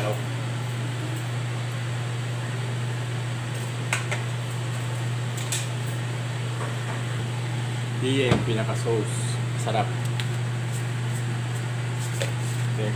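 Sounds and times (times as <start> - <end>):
low motor hum: 0.0 - 12.9.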